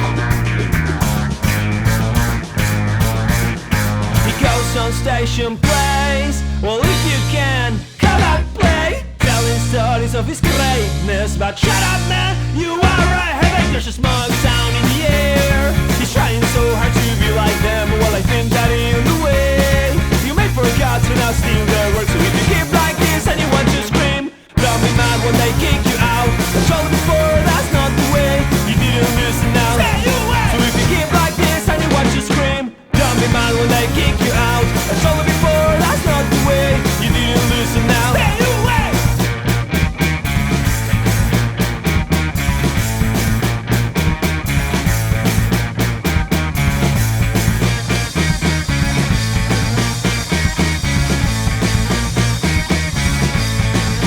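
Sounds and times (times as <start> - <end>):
bass guitar: 0.0 - 54.0
drums: 0.0 - 54.0
rock band playing: 0.0 - 54.0.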